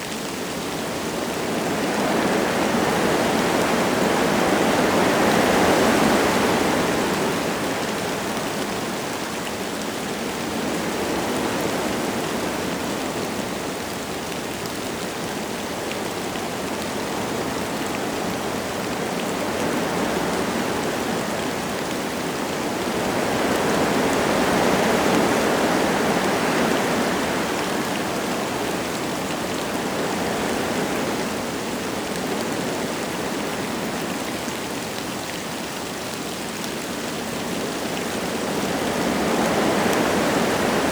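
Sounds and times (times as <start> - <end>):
light rain falling: 0.0 - 40.9
wind gusting through trees: 0.0 - 40.9.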